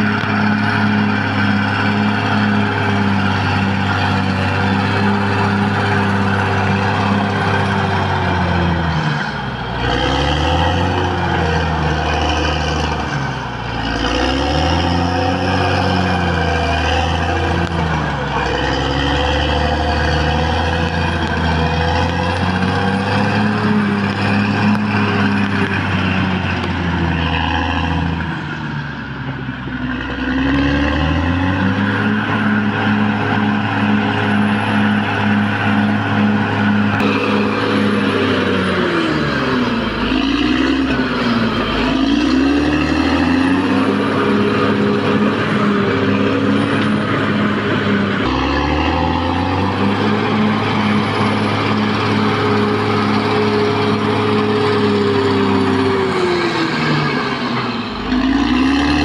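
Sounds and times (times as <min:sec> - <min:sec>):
bulldozer diesel engine running hard: 0:00.0 - 0:59.0.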